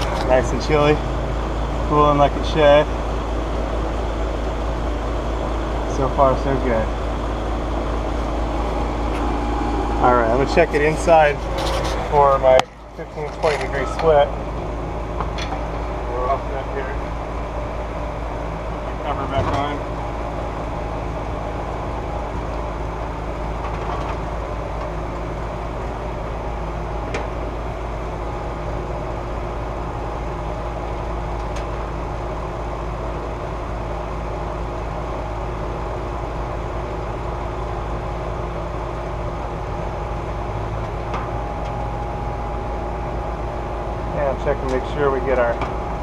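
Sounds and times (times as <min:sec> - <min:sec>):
air conditioner unit humming: 0:00.0 - 0:46.0.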